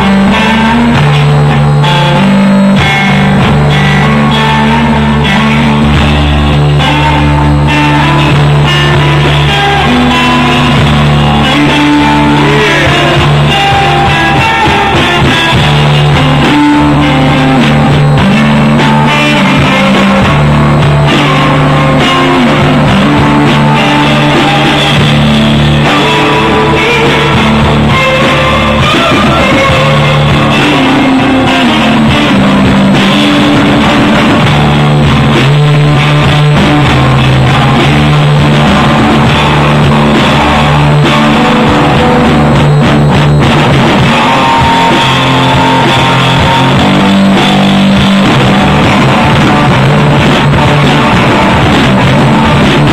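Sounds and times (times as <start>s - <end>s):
drum kit: 0.0s - 52.9s
electric guitars strummed: 0.0s - 52.9s.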